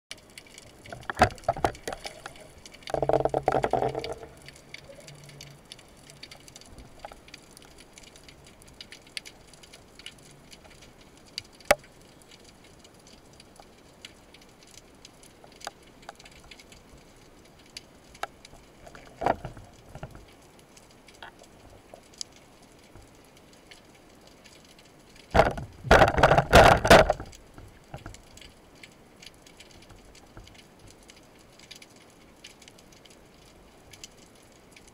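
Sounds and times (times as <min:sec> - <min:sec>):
underwater rushing: 0:00.1 - 0:24.2, 0:24.9 - 0:31.2
underwater clicks and crackles: 0:00.1 - 0:34.9.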